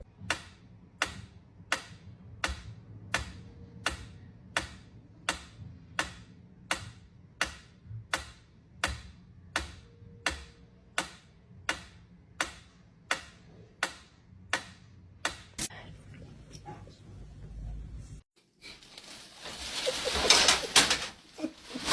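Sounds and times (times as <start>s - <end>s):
low hum: 0.0s - 18.2s.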